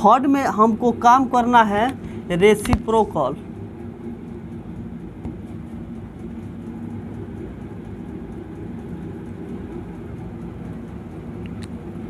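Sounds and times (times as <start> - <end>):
low background hum and rumble: 0.0 - 12.0.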